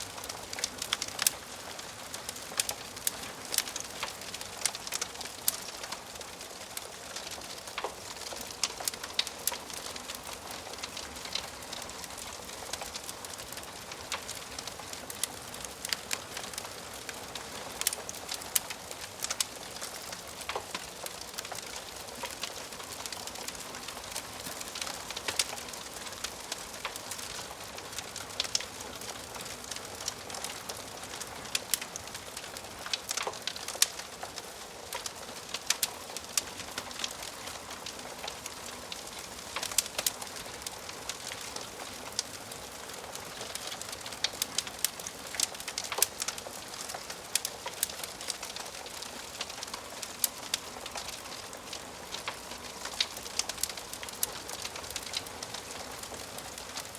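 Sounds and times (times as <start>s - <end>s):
burning wood crackling and popping: 0.0s - 56.9s
wood fire hissing: 0.0s - 56.9s.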